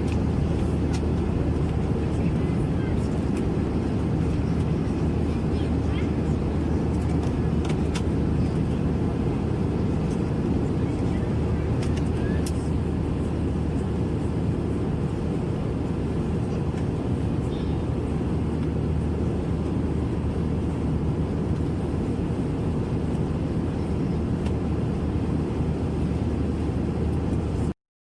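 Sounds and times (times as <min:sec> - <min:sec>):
airliner cabin engine rush: 0:00.0 - 0:27.8.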